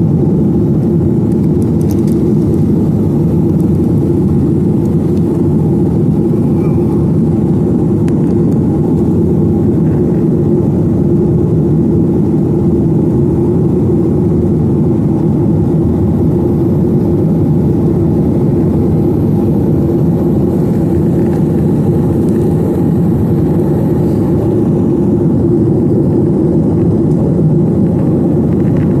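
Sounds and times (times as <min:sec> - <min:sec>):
jet engine cabin drone: 0:00.0 - 0:29.0.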